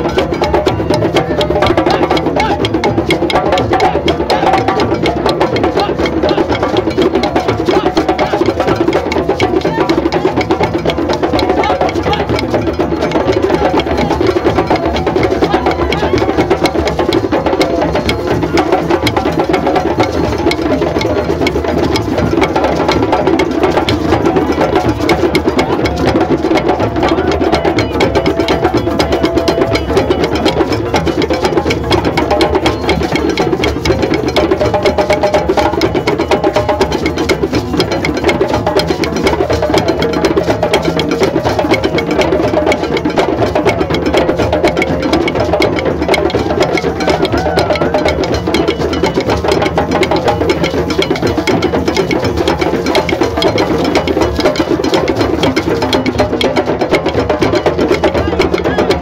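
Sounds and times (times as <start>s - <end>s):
drum circle: 0.0s - 59.0s.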